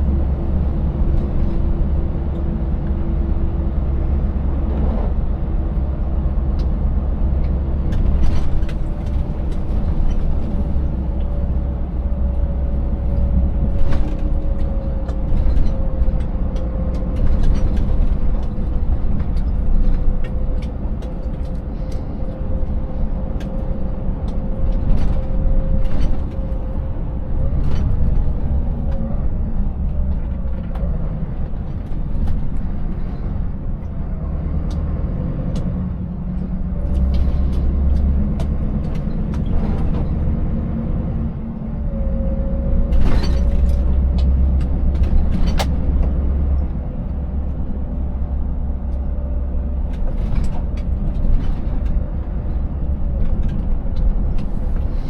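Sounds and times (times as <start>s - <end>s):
steady engine whine: 0.0s - 55.0s
truck engine drone: 0.0s - 55.0s.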